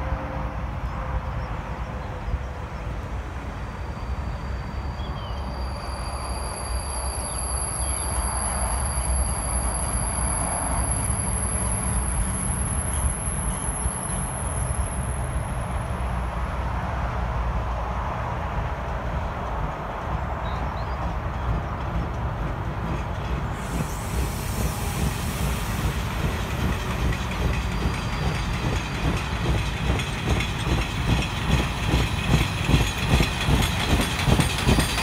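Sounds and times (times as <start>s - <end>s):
diesel locomotive engine and rails: 0.0s - 35.0s.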